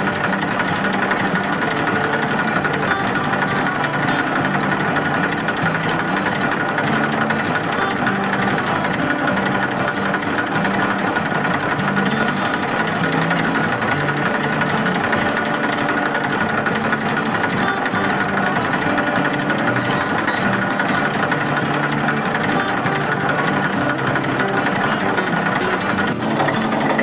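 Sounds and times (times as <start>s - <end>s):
tractor motor running: 0.0s - 27.0s.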